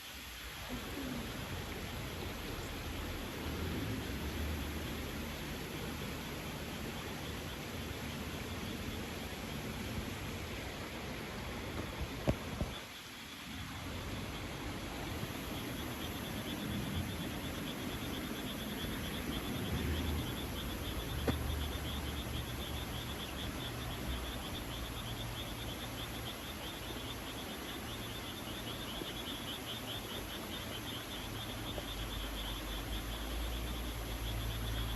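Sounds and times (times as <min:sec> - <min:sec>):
insects trilling: 0:00.0 - 0:34.9.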